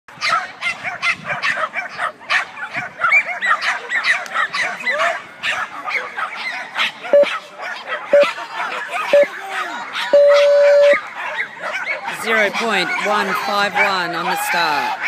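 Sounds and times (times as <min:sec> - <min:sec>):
dogs barking rapidly: 0:00.1 - 0:15.0.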